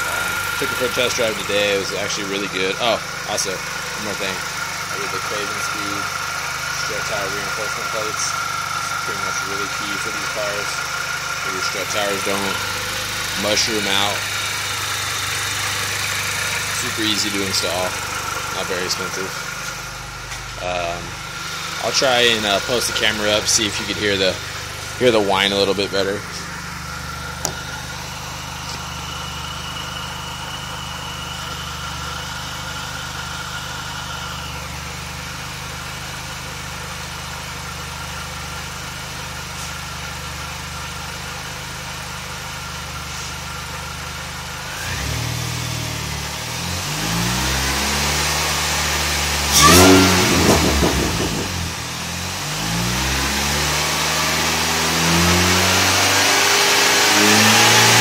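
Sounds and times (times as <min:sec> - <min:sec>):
car engine revving: 0:00.0 - 0:36.6, 0:42.7 - 0:58.0
car engine idling with whine: 0:00.0 - 0:58.0.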